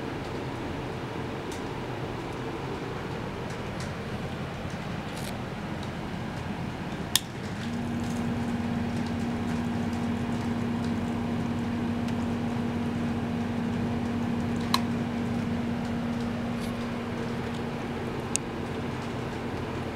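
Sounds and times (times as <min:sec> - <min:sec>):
pump water gurgling: 0:00.0 - 0:19.9
steady low hum: 0:00.0 - 0:19.9.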